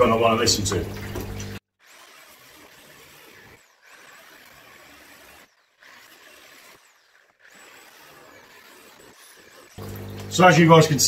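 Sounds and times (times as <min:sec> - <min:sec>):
angle grinder cutting plastic: 0:00.0 - 0:11.0.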